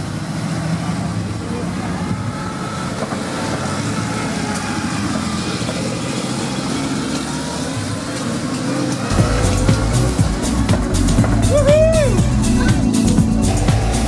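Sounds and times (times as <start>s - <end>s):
car engine running: 0.0s - 14.0s
outdoor background noise: 0.0s - 14.0s.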